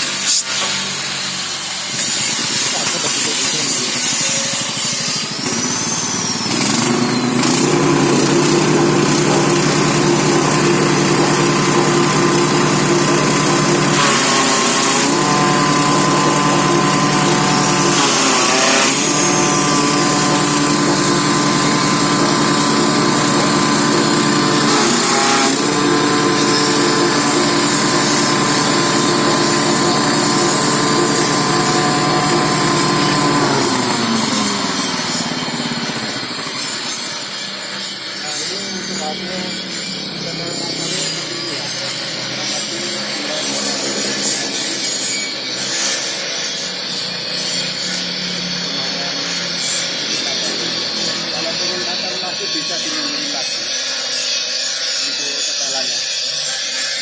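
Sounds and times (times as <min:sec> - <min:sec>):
grass chopper machine running: 0:00.0 - 0:57.0.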